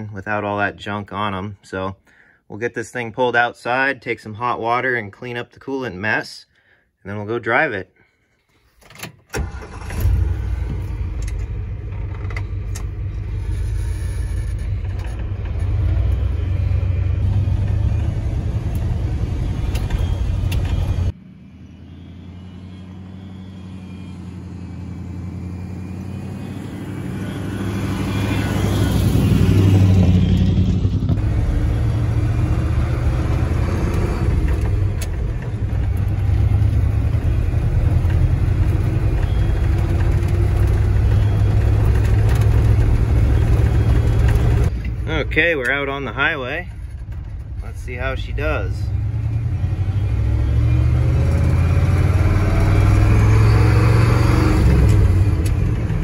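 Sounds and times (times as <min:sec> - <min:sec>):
truck engine starting and running: 0:07.6 - 0:56.0.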